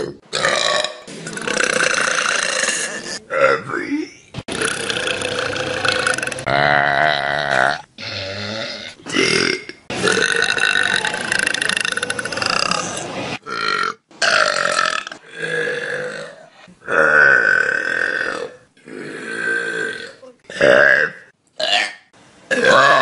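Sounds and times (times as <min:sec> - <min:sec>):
loud human burps: 0:00.0 - 0:03.6, 0:04.5 - 0:23.0.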